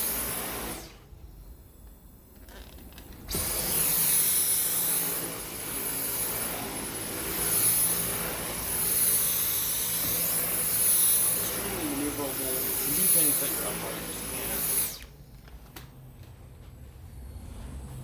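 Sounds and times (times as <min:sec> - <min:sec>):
vacuum cleaner motor whine: 0:00.0 - 0:01.6, 0:02.4 - 0:18.0.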